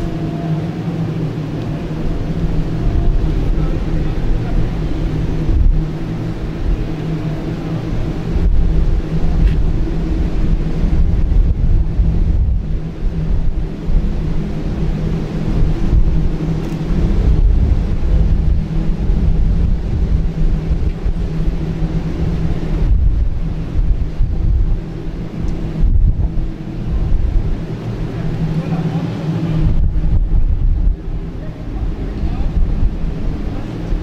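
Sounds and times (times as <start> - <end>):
steady low hum: 0.0 - 34.0
wind buffeting microphone: 0.0 - 34.0.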